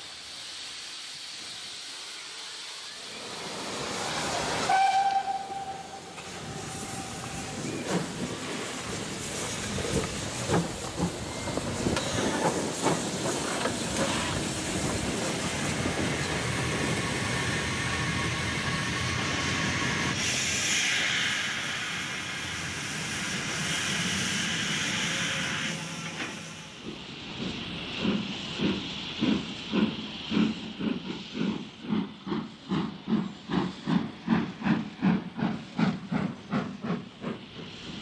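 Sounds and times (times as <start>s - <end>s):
steam hiss: 0.0s - 38.0s.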